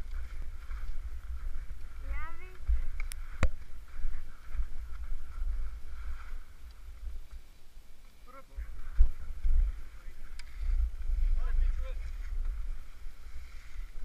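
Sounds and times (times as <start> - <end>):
skis sliding on snow: 0.0 - 14.0
wind buffeting microphone: 0.0 - 14.0.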